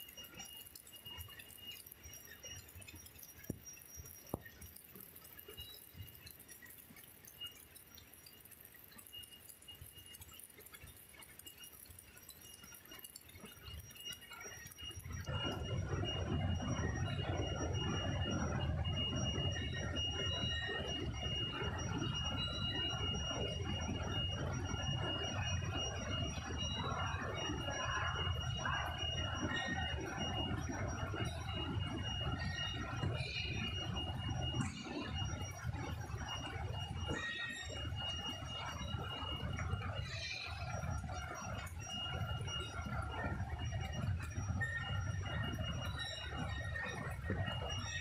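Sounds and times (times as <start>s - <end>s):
faint high-pitched whines: 0.0s - 48.0s.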